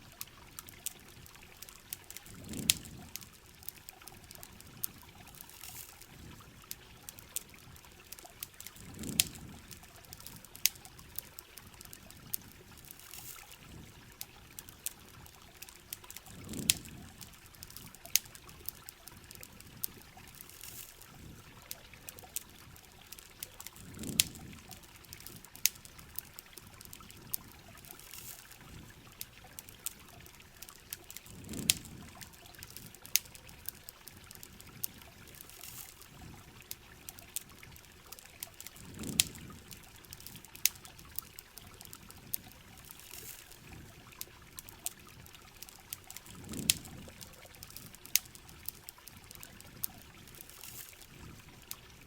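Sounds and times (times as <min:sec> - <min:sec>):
campfire crackling: 0:00.0 - 0:52.0
rain hissing: 0:00.0 - 0:52.0
trickling water: 0:00.0 - 0:52.0.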